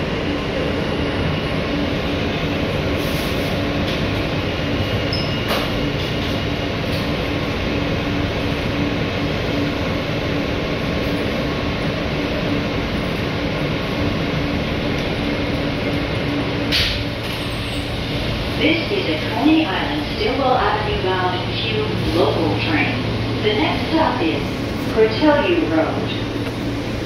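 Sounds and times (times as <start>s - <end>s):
steady train hum: 0.0s - 27.0s
subway wheels rumbling on track: 0.0s - 27.0s.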